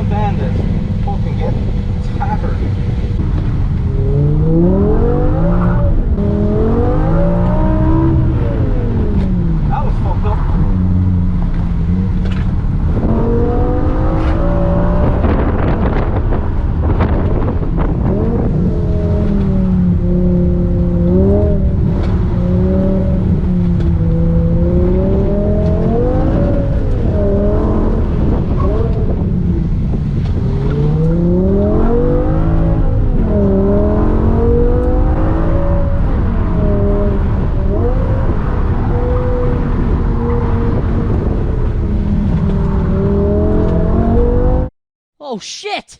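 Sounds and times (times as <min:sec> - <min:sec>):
car engine revving under load: 0:00.0 - 0:44.7.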